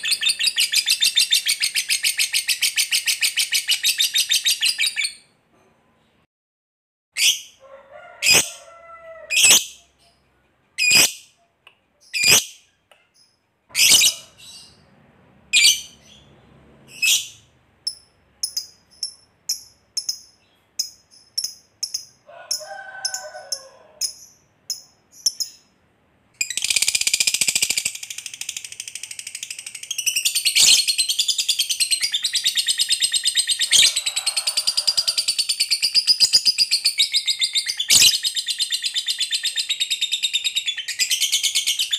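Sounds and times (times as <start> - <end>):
bird chirping: 0.0 - 6.2, 9.3 - 25.8, 26.4 - 41.9.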